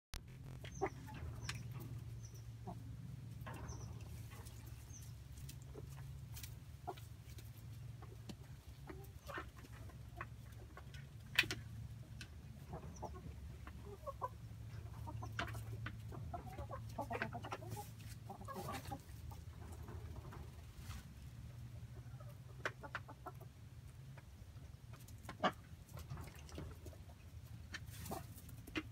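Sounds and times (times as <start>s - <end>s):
chickens clucking: 0.2s - 28.9s.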